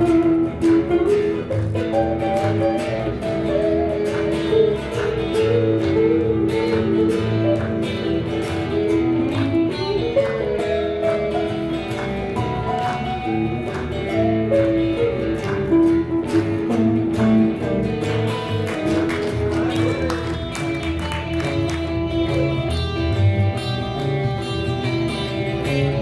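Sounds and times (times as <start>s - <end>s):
acoustic guitars: 0.0s - 26.0s
electric bass guitar: 0.0s - 26.0s.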